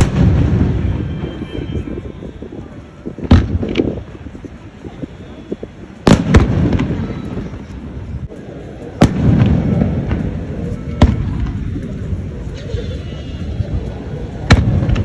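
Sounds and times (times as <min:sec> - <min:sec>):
fireworks bangs: 0:00.0 - 0:12.4, 0:14.4 - 0:15.0.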